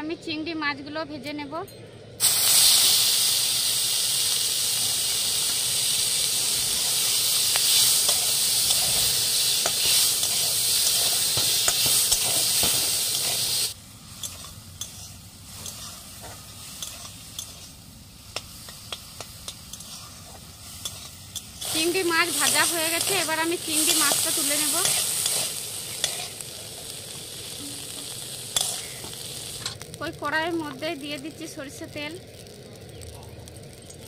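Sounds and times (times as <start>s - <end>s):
prawns sizzling in oil: 2.2s - 34.0s.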